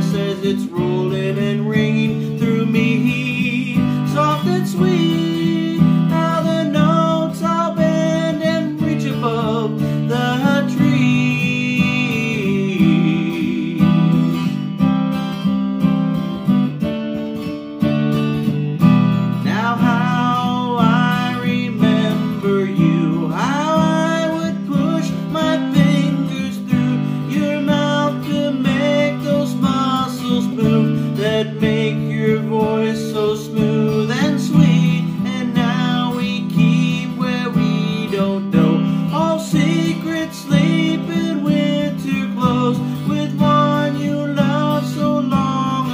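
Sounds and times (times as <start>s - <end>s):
man singing wordless melody: 0.0s - 14.8s, 19.4s - 45.9s
acoustic guitar strumming: 0.0s - 45.9s.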